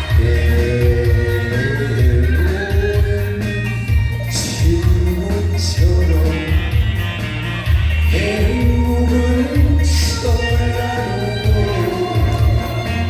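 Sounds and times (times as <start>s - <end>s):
heavy bass beat: 0.0s - 13.0s
man singing pop song: 0.0s - 13.0s.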